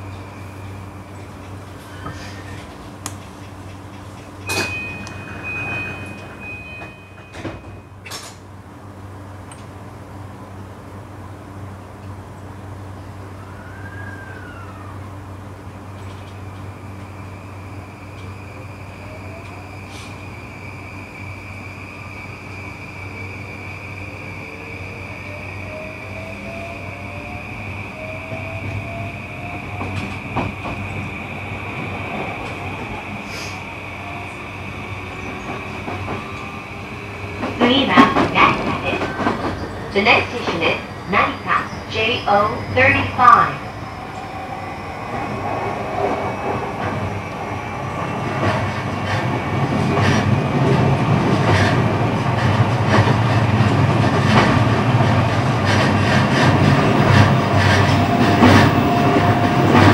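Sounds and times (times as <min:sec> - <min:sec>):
low hum of stationary train: 0:00.0 - 0:59.9
rush of train doors: 0:00.0 - 0:59.9.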